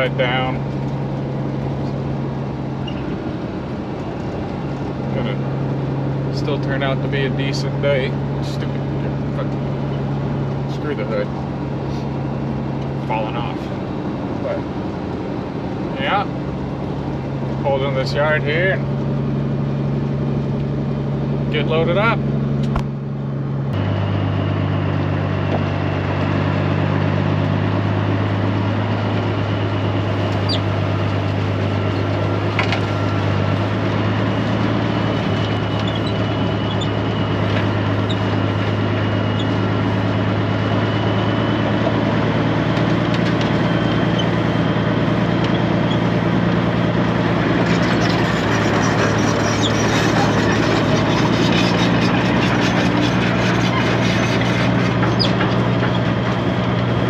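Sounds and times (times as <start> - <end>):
truck diesel engine droning: 0.0 - 57.0.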